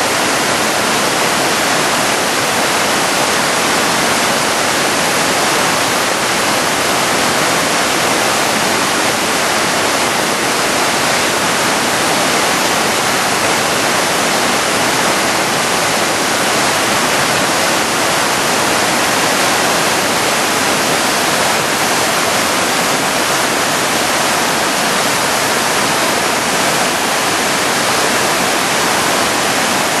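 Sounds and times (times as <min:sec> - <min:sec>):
flooded river rushing: 0:00.0 - 0:30.0.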